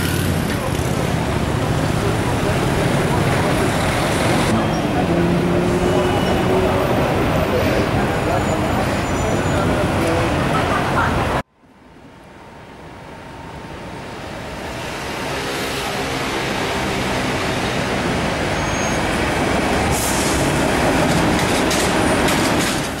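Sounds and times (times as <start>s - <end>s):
metro train rumbling: 0.0s - 11.4s, 12.0s - 23.0s.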